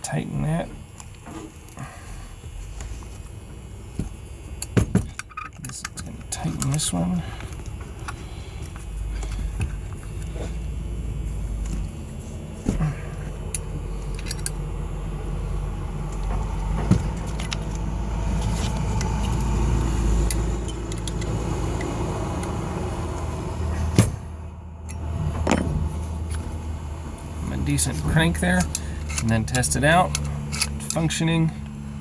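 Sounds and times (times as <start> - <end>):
steady low rumble: 0.0 - 32.0
handling noise: 2.6 - 31.1.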